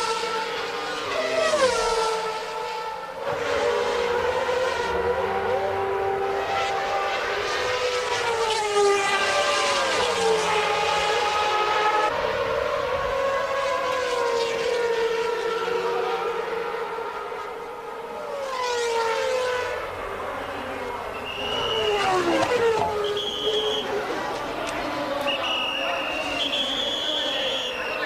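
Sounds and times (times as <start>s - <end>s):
racing car engines high-revving: 0.0s - 28.0s.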